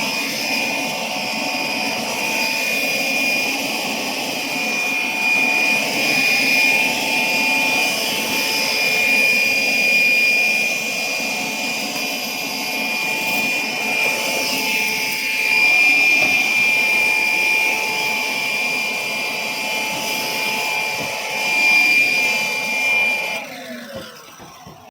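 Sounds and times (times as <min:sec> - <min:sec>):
air blower running: 0:00.0 - 0:24.9.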